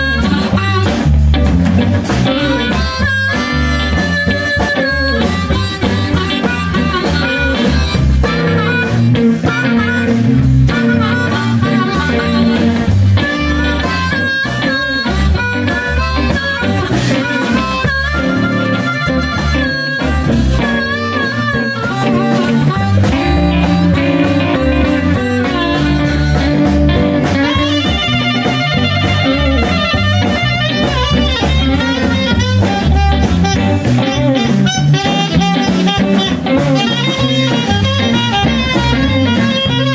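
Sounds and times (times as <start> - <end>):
amplified harmonica solo: 0.0 - 39.9
blues band playing: 0.0 - 39.9
saxophone lead: 0.0 - 39.9.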